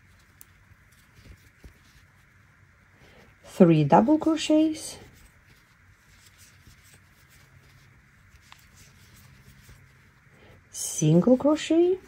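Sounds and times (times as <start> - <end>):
yarn rustling through crochet hook: 0.0 - 12.0.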